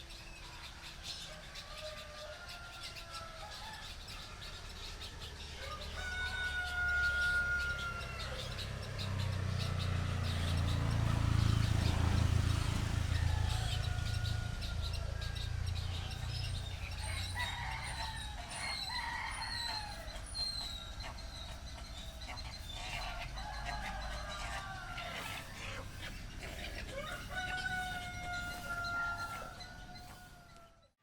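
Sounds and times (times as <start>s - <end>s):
small birds chirping: 0.0s - 31.0s
rooster crowing: 1.1s - 9.0s, 9.6s - 21.2s, 23.0s - 25.9s, 26.9s - 30.9s
chickens clucking: 1.1s - 30.7s.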